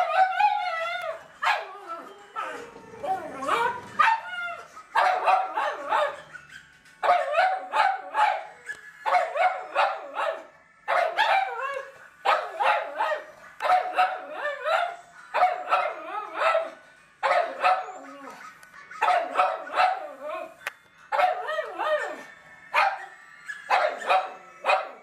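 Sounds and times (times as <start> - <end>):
dogs barking: 0.0 - 2.6, 3.3 - 25.0.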